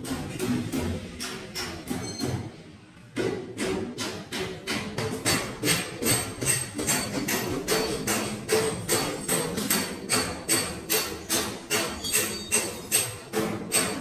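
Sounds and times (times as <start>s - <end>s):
hammer beating sheet metal: 0.0s - 14.0s.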